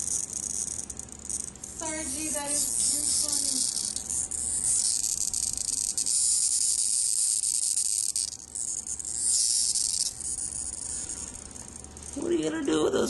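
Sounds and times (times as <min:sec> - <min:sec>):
cicadas buzzing: 0:00.0 - 0:12.7.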